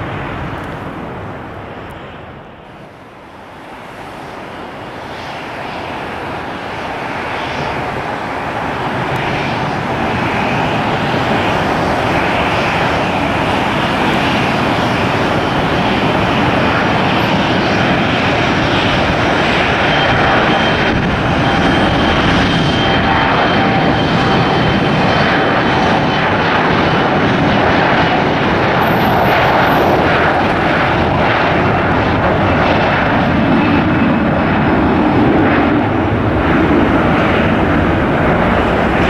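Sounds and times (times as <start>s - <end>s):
airliner engines rumbling: 0.0s - 39.0s.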